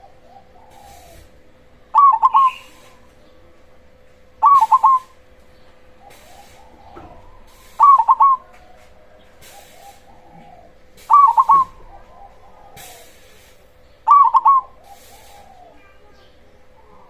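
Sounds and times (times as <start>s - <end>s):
dove cooing: 0.0s - 17.0s
faint steady hum: 0.0s - 17.0s.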